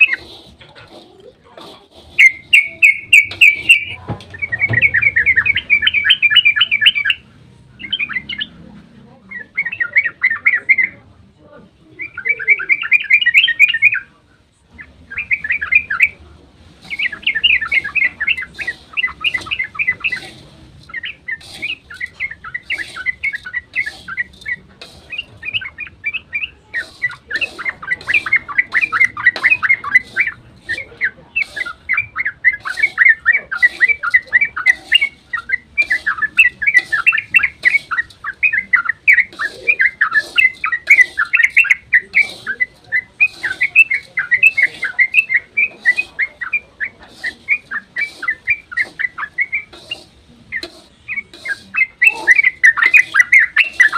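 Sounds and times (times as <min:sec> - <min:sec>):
bulbul singing: 0:00.0 - 0:11.1, 0:11.8 - 0:53.9.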